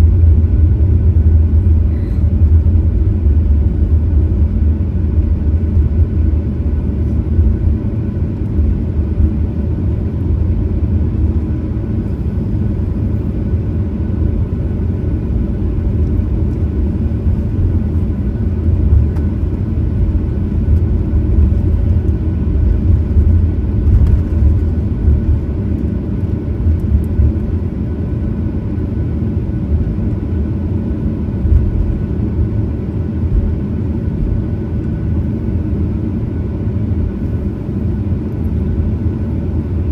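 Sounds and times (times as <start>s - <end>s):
aircraft cabin rumble: 0.0s - 39.9s
faint steady whine: 0.0s - 39.9s.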